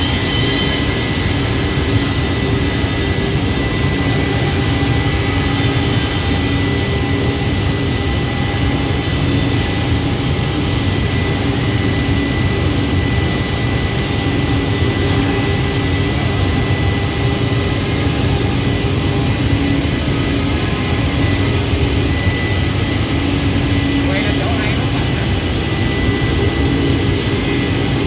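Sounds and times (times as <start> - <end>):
scroll saw droning and whining: 0.0 - 28.0.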